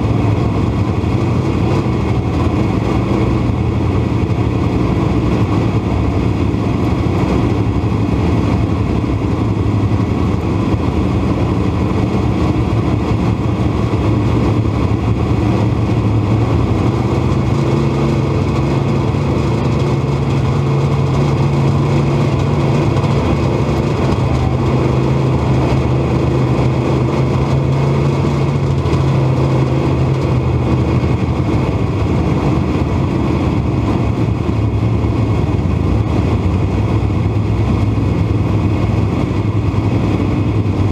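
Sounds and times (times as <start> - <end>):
other car engines: 0.0 - 40.9
race car engine running: 0.0 - 40.9.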